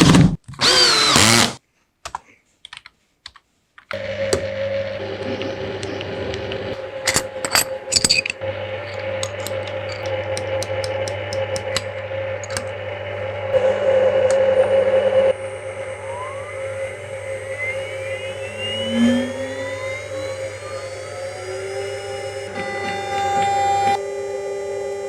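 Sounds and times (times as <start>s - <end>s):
milling machine spindle whine: 4.0s - 25.0s
steady hum: 4.0s - 25.0s.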